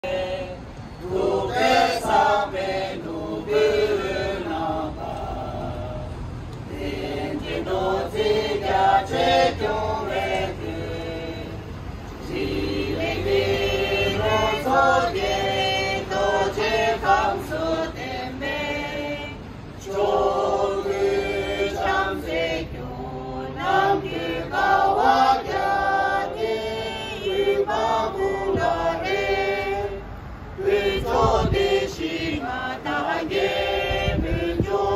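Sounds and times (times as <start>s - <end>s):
group singing in unison: 0.0s - 34.9s.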